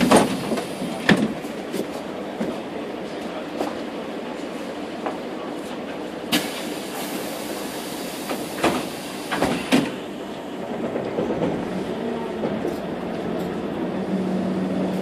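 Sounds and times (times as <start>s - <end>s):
bus cabin rumble: 0.0s - 15.0s.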